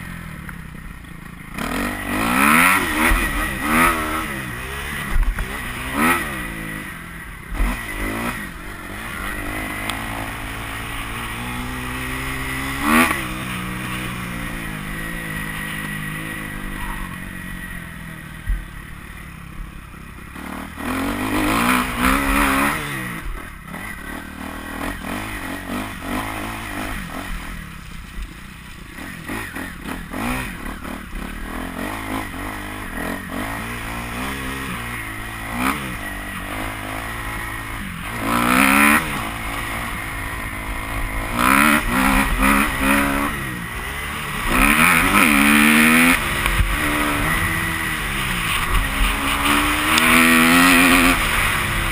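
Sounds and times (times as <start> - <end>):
motorcycle engine revving hard: 1.3 - 19.4, 20.2 - 28.1, 28.8 - 51.9.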